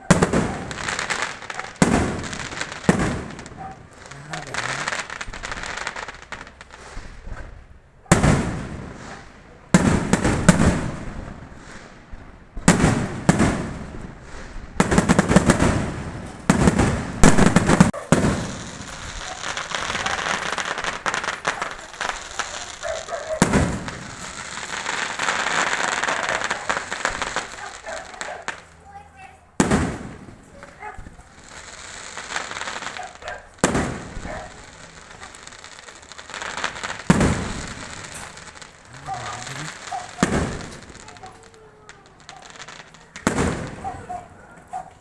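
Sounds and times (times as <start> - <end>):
fireworks banging: 0.0 - 45.0
fireworks crackling: 0.0 - 45.0.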